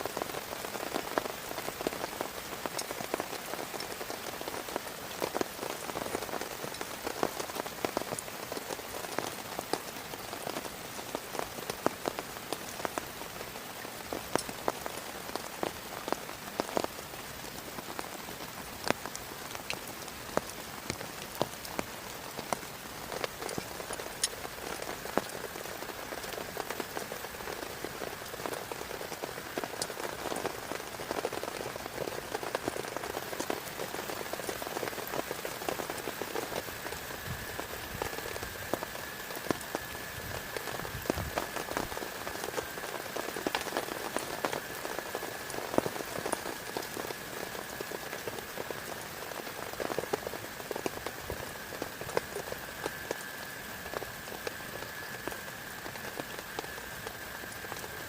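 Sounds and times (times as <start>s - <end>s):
rain on a tarp: 0.0s - 58.0s.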